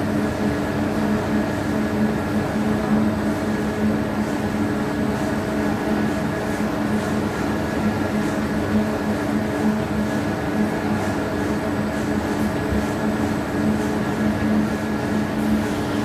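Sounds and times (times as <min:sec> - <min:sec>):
dough mixer humming: 0:00.0 - 0:16.0.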